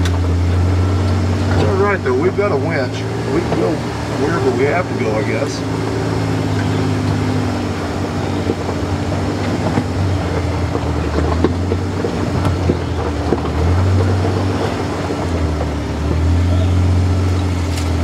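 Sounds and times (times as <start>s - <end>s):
knocks and rattles from bumpy ride: 0.0s - 18.0s
vehicle engine running: 0.0s - 18.0s.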